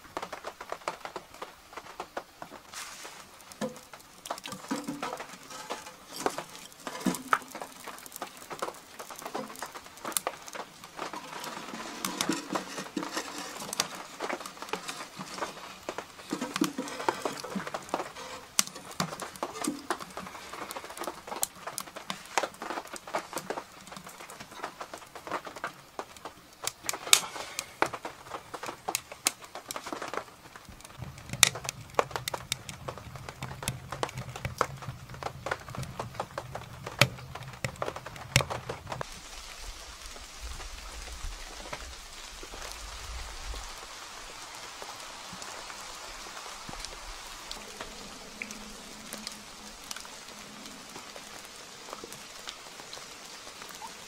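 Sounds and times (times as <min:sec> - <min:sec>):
rain on a canvas tent: 0:00.0 - 0:54.0.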